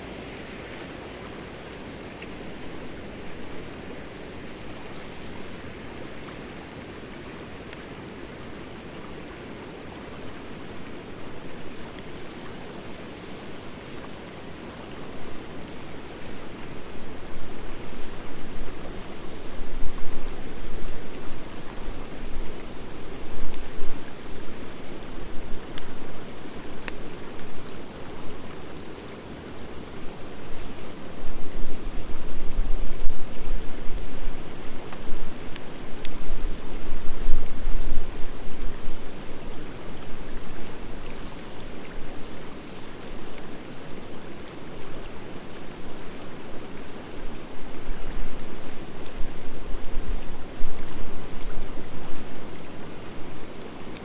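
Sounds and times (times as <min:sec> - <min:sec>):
wood fire hissing and crackling: 0:00.0 - 0:54.0.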